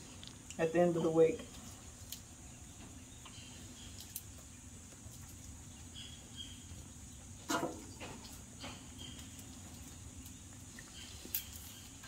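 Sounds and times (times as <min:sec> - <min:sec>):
high insect hum: 0:00.0 - 0:12.0.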